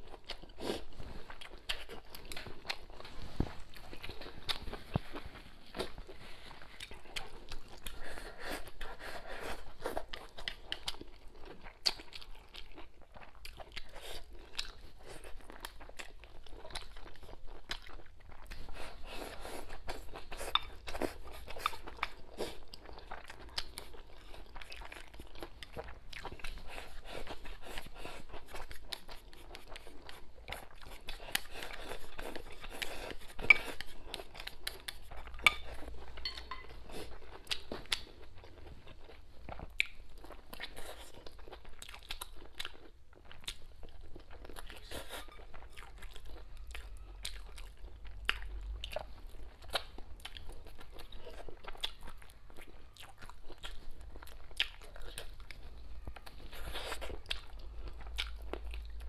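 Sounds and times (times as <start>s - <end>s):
chewing with clicks and smacks: 0.0s - 59.0s.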